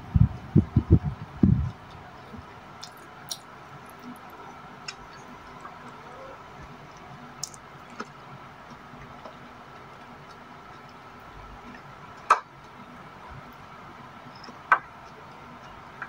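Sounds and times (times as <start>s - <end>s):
steady low hum: 0.0s - 16.0s
quiet eating sounds: 1.7s - 16.0s.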